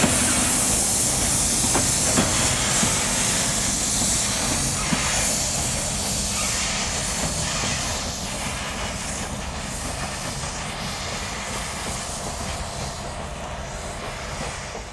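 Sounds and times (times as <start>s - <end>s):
freight train rumbling on rails: 0.0s - 14.9s.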